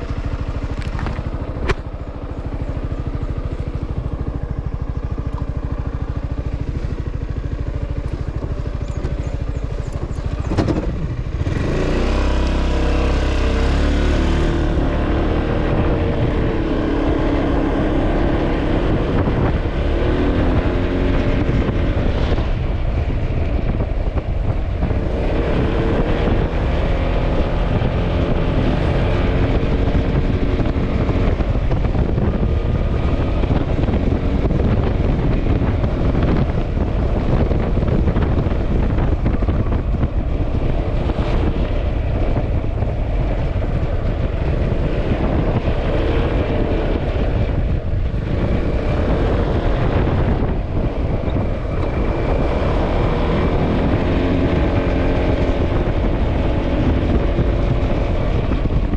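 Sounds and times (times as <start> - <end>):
scooter engine running: 0.0 - 58.9
wind rushing over microphone: 0.0 - 58.9.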